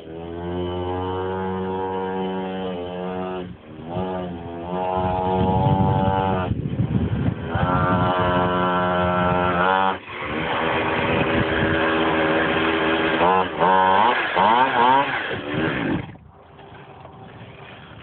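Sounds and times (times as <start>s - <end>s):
small motorbike engine revving: 0.0s - 18.0s.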